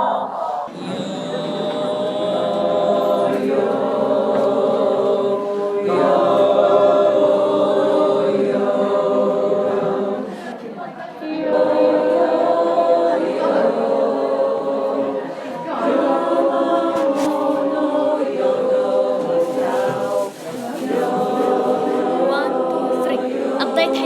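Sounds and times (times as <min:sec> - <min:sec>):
voices singing held chords: 0:00.0 - 0:24.0.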